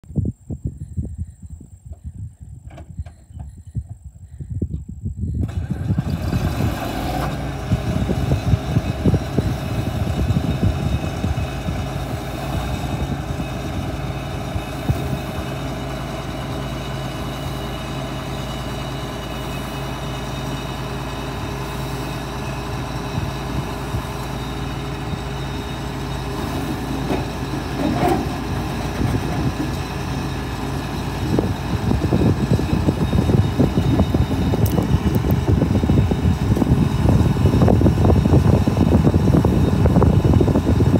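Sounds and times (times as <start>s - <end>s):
diesel engine idling: 5.2s - 40.9s.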